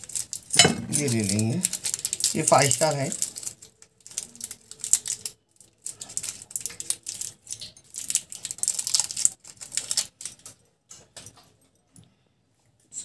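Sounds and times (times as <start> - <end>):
wrapper being torn open: 0.0 - 10.5.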